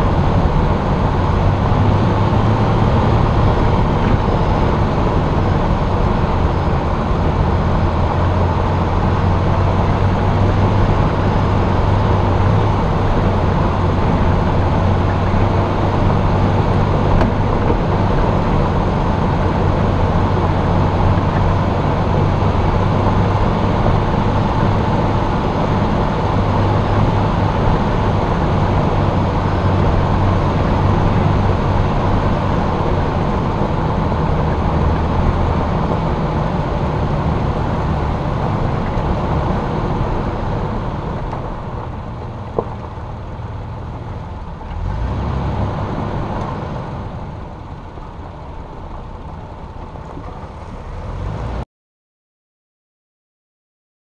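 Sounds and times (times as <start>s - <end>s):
car engine running: 0.0s - 51.6s
tyre and wind noise: 0.0s - 51.6s.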